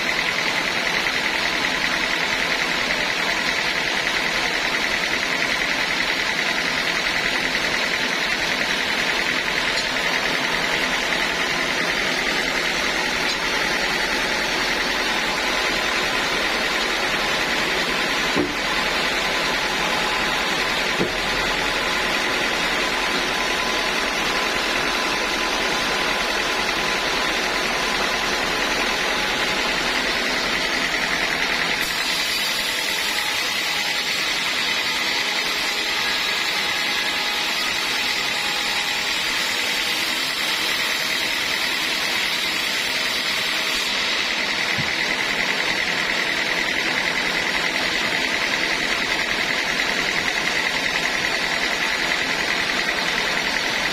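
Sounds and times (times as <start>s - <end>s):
sawmill saw running with whine: 0.0s - 53.9s.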